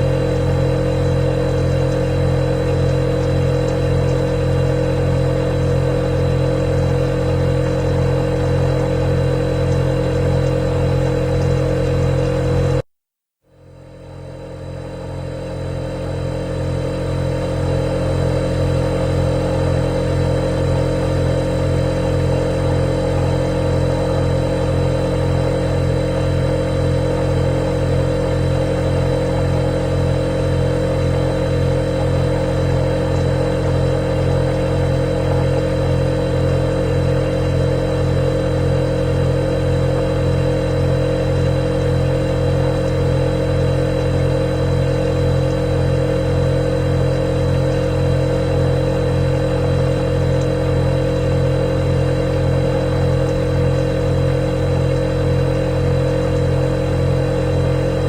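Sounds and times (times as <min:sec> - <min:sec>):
refrigerator compressor humming: 0:00.0 - 0:12.9, 0:13.5 - 0:58.0.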